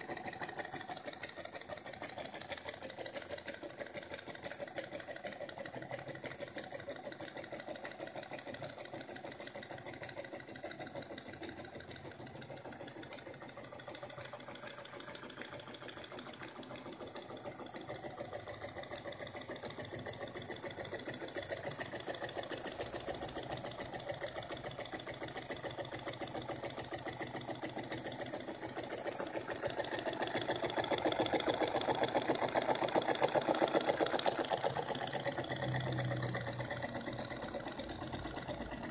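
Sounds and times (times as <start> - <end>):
steam engine chuffing: 0.0 - 38.9.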